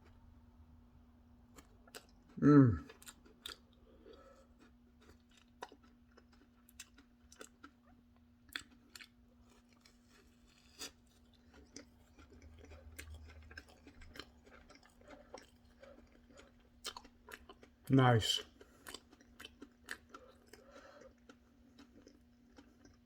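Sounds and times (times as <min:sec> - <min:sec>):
chewing marshmallow candy: 0:01.5 - 0:23.0.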